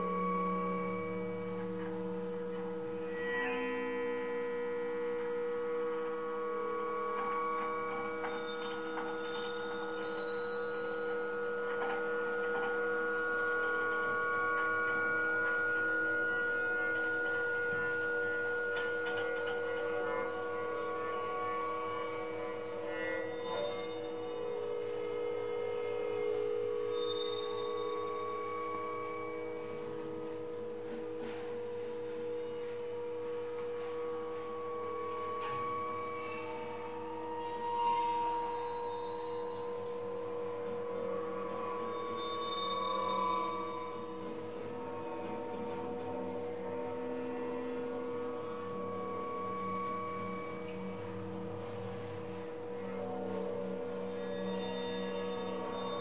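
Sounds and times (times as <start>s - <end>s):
steady drone tones: 0.0s - 56.0s.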